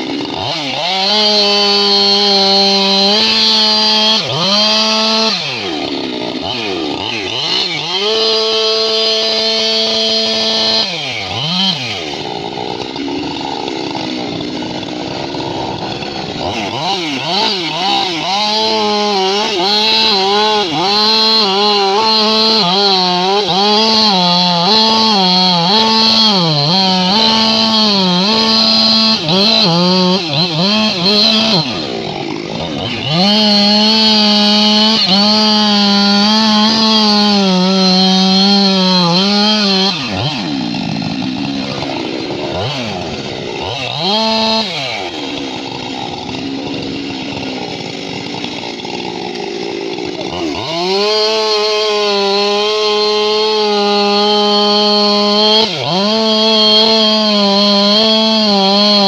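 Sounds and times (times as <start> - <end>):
chainsaw running at high revs: 0.0 - 59.0.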